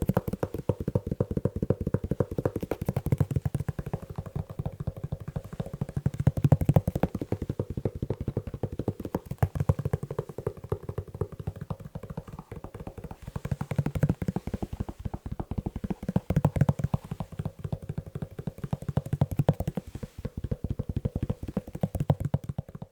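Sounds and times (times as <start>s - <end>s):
fast tapping on leather shoe: 0.0s - 22.9s.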